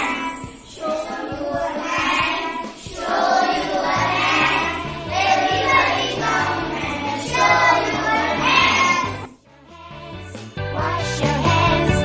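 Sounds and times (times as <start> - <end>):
children singing: 0.0 - 12.0
music backing track: 0.0 - 12.0.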